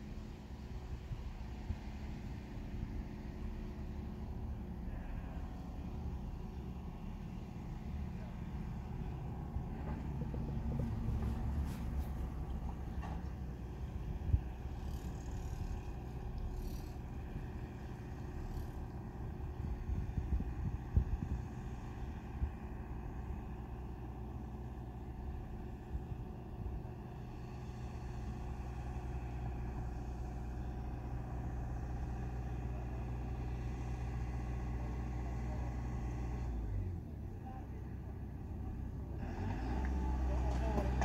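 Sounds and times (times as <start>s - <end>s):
chairlift machinery humming: 0.0s - 36.1s.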